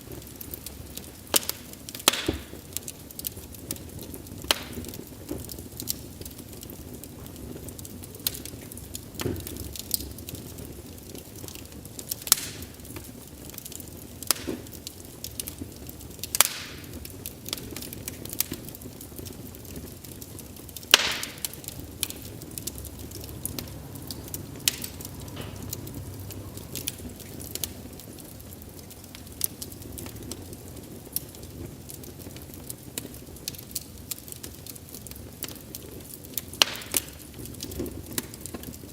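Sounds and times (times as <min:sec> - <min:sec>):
burning logs popping and snapping: 0:00.0 - 0:38.9
low rumble of flames: 0:00.0 - 0:38.9.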